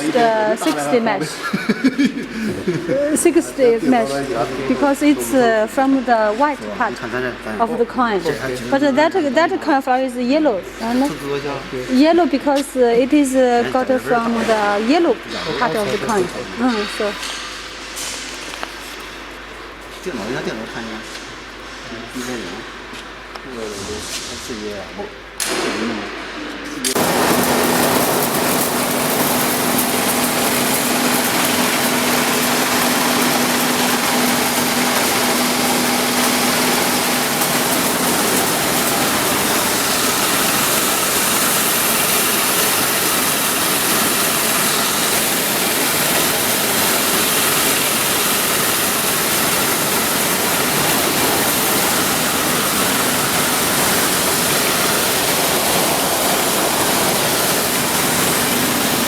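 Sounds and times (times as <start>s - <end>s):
mill machinery rushing noise: 0.0s - 9.7s, 10.4s - 19.5s, 25.4s - 59.0s
steady machine hum: 0.0s - 59.0s.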